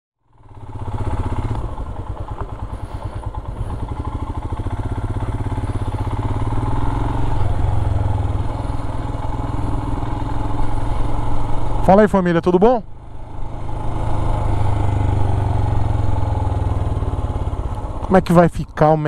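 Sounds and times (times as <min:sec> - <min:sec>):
motorcycle engine running: 0:00.2 - 0:19.0.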